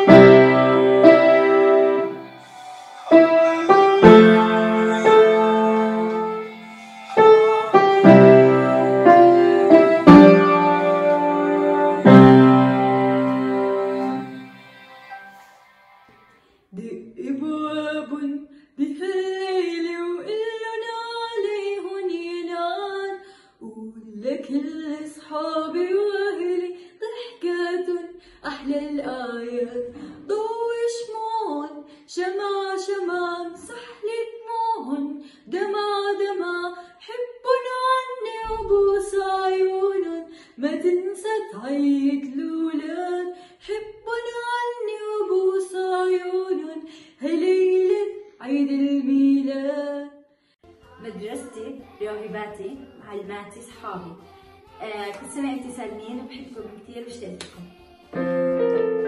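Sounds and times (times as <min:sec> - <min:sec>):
girl singing: 0:00.0 - 0:50.1, 0:50.7 - 0:59.0.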